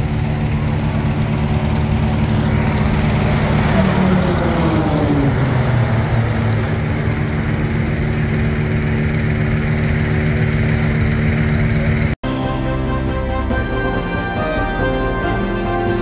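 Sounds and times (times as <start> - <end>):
planes droning overhead: 0.0 - 16.0.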